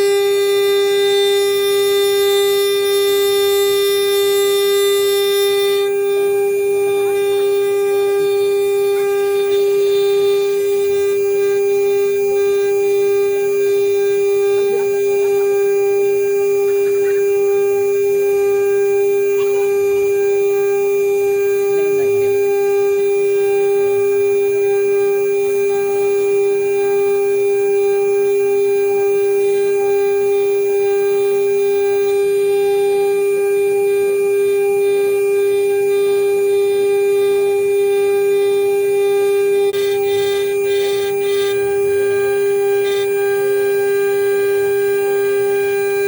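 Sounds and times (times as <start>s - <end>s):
router spindle whine: 0.0s - 46.0s.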